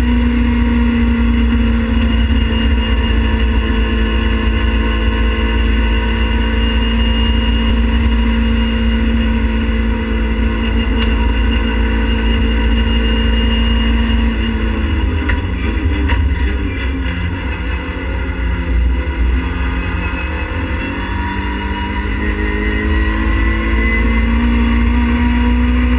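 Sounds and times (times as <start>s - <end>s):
race car engine at high revs: 0.0s - 25.9s.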